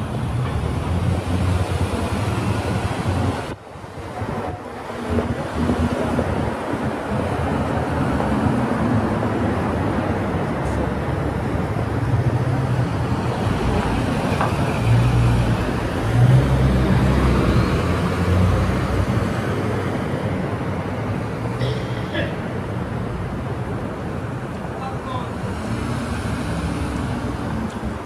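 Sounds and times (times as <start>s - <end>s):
vehicles driving past: 0.0s - 28.0s.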